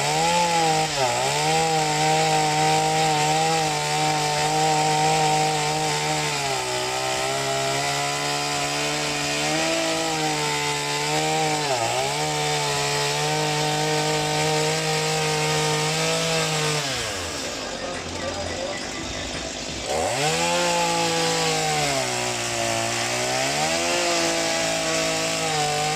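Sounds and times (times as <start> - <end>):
chainsaw engine buzzing: 0.0 - 25.9.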